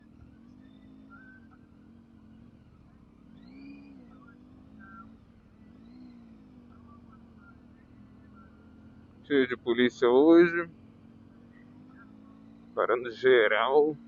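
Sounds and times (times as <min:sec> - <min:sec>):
motorcycle engine revving: 0:00.0 - 0:14.0
motorcycle engine running: 0:00.0 - 0:14.0.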